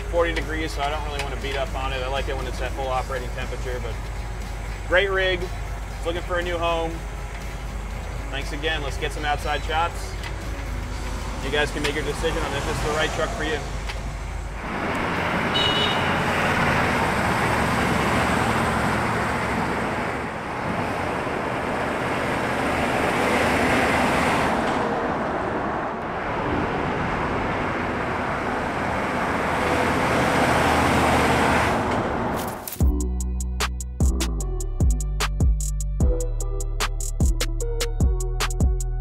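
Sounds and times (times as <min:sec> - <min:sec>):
diesel engine rumble: 0:00.0 - 0:39.0.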